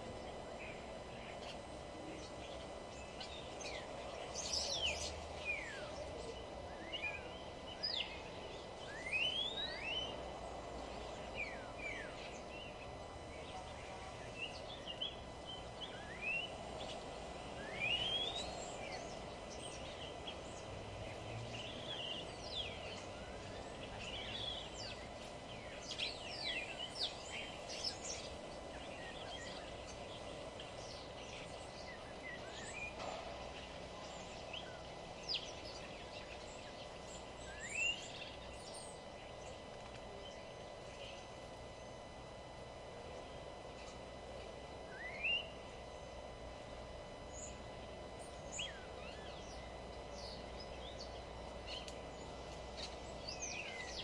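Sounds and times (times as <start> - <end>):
songbirds chirping: 0.0 - 54.0
steady low background noise: 0.0 - 54.0.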